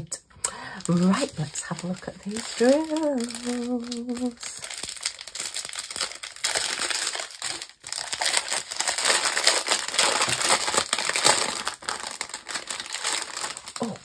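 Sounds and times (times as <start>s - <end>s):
foil packaging crinkling: 0.5s - 14.0s.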